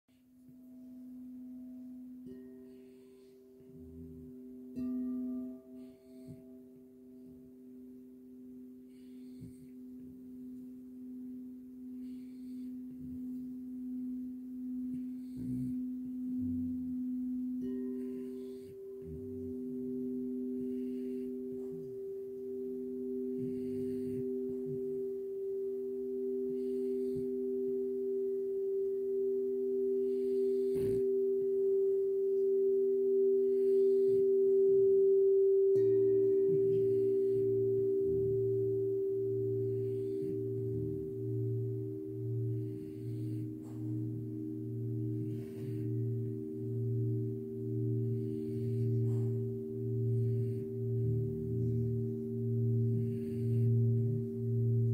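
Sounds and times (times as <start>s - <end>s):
crystal singing bowls ringing: 0.3s - 54.9s.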